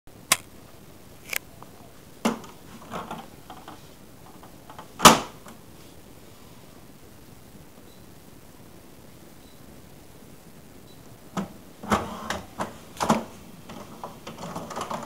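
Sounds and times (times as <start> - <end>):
faint room hiss: 0.1 - 15.0.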